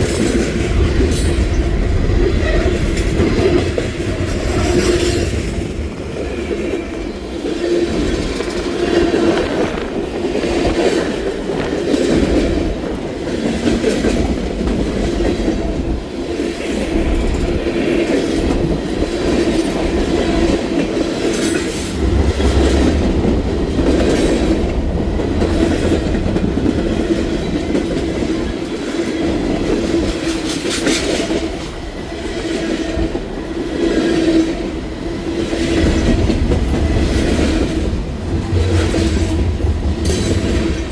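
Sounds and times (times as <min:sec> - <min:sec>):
train wheels rumbling on rails: 0:00.0 - 0:40.9
wheels clacking over rail joints: 0:00.0 - 0:40.9.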